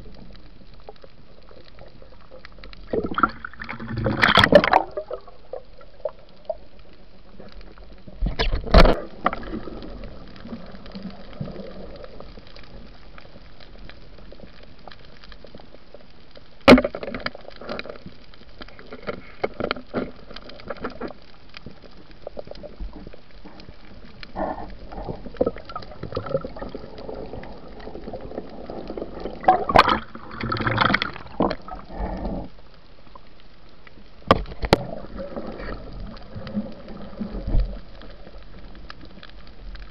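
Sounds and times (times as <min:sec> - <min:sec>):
bubbling and splashing: 0:00.0 - 0:33.3, 0:34.2 - 0:39.9.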